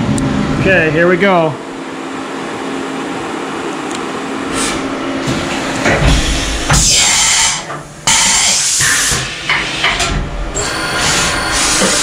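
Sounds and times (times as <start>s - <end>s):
milling machine hum: 0.0s - 12.0s.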